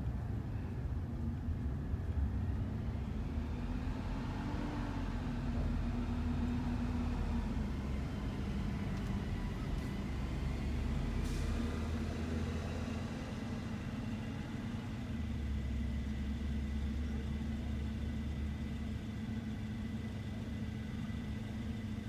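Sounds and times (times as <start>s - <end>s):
van engine and road noise: 0.0s - 22.0s.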